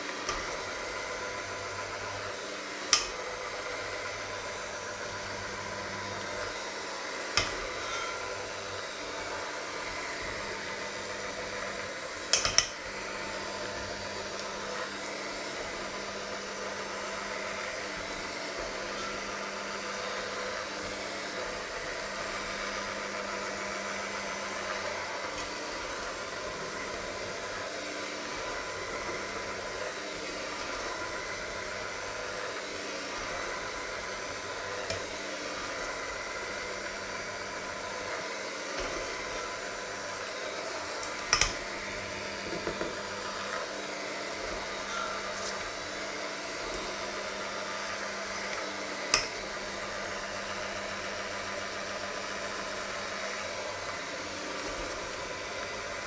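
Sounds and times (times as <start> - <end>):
electric hand mixer whirring: 0.0 - 56.0.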